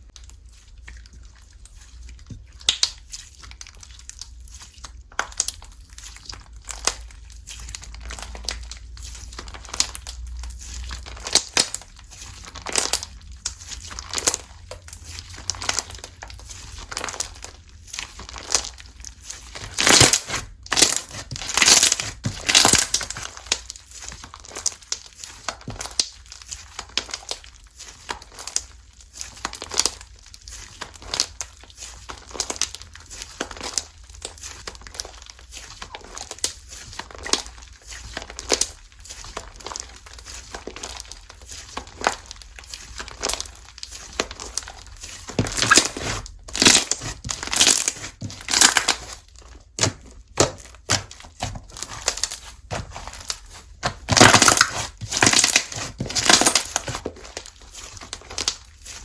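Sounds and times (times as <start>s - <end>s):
slime squished by hand: 0.0s - 59.0s.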